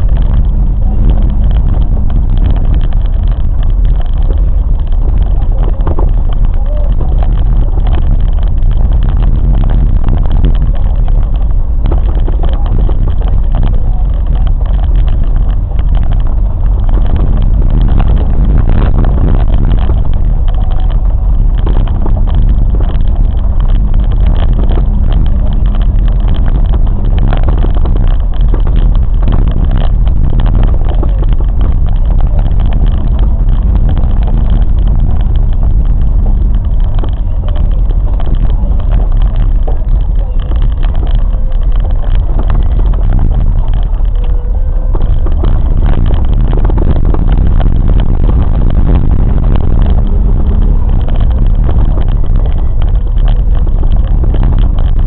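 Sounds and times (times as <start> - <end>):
train rumbling along track: 0.0 - 55.0.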